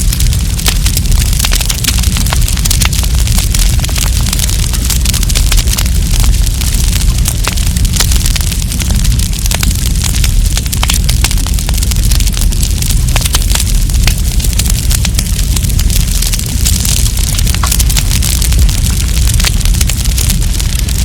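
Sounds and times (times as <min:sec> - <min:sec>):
campfire crackling: 0:00.0 - 0:21.0
fire popping and snapping: 0:00.0 - 0:21.0
low rumble of burning fire: 0:00.0 - 0:21.0.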